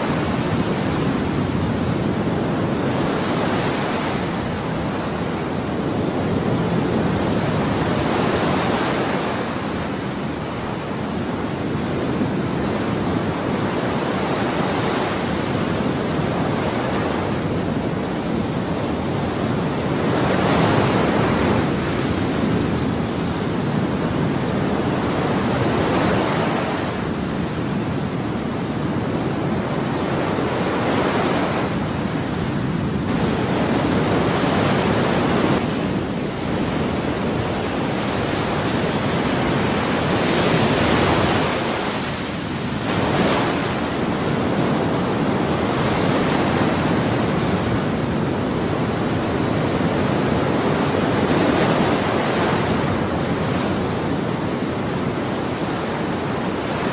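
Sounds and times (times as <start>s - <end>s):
ocean waves breaking: 0.0s - 56.9s.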